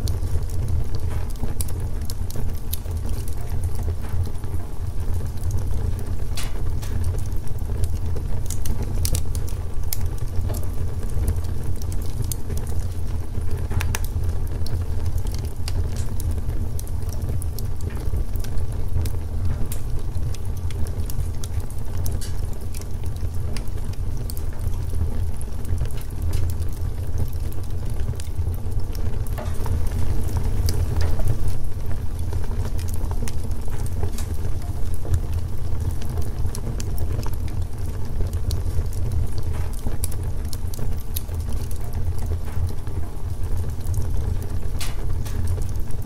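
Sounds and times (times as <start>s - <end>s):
crackles and pops of burning wood: 0.0s - 46.0s
wood fire burning: 0.0s - 46.0s.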